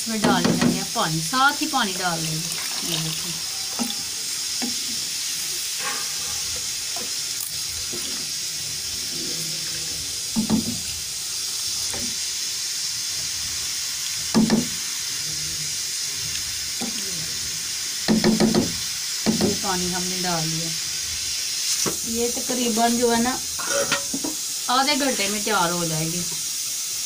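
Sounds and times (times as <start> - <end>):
water sizzling in hot pot: 0.0 - 27.0.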